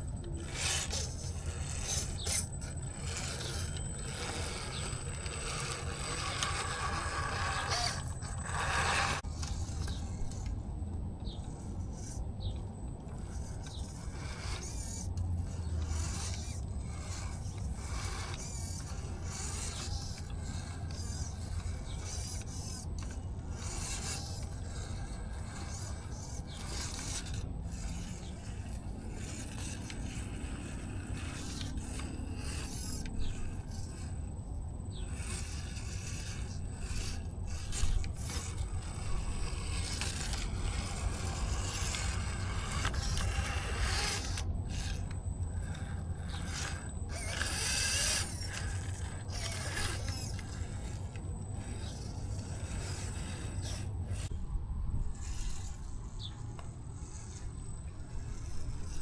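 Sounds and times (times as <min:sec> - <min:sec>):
faint high whine: 0:00.0 - 0:59.0
motor and gears humming: 0:00.0 - 0:59.0
tyres scraping over rough ground: 0:00.0 - 0:59.0.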